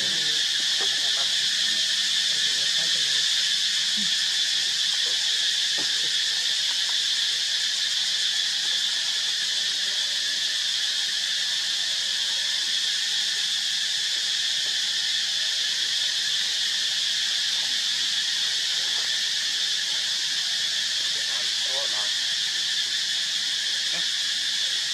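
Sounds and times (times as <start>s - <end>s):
high-pitched insect chorus: 0.0s - 24.9s.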